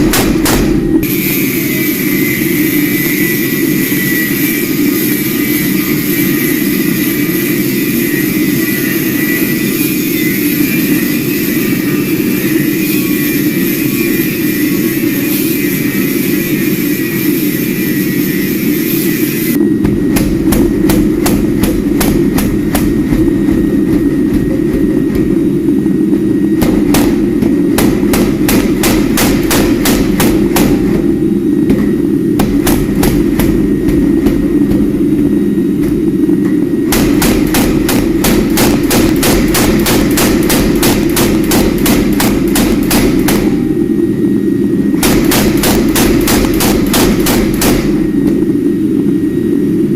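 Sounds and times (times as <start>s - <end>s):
forge roaring: 0.0s - 49.9s.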